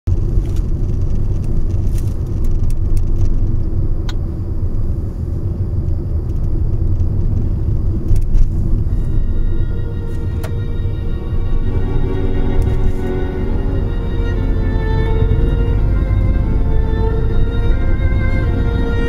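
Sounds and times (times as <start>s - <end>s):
car cabin road rumble: 0.1s - 19.0s.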